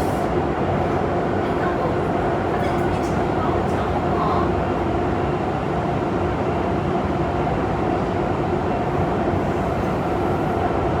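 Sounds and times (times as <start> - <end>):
subway train running rumble: 0.0 - 11.0.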